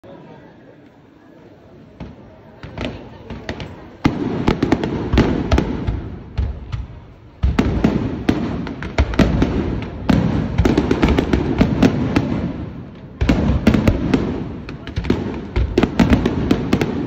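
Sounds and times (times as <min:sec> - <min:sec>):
fireworks bursting and crackling: 0:01.8 - 0:17.0.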